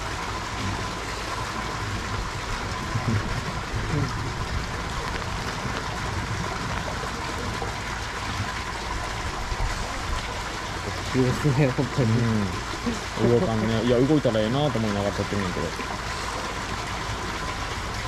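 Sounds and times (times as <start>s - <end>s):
water running and trickling: 0.0s - 18.0s.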